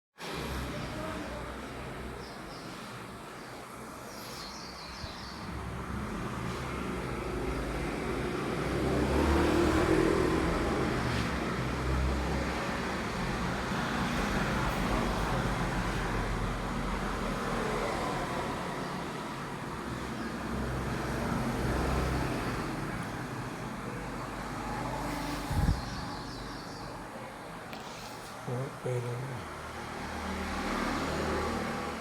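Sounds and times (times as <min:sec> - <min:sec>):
rumble of passing vehicles: 0:00.2 - 0:32.0.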